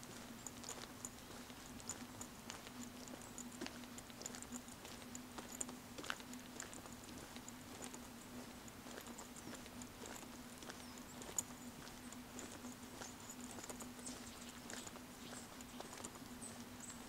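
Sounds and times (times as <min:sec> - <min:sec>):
footsteps on paved road: 0:00.0 - 0:17.0
steady low hum: 0:00.0 - 0:17.0.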